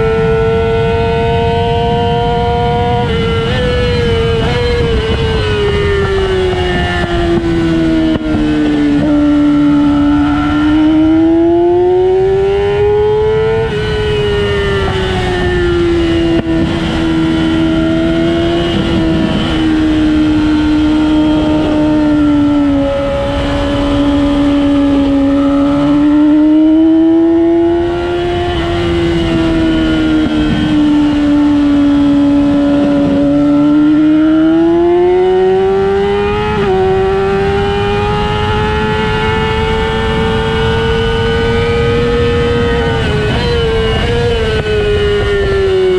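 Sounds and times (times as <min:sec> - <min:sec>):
race car engine revving: 0:00.0 - 0:45.9
wind and road noise: 0:00.0 - 0:45.9.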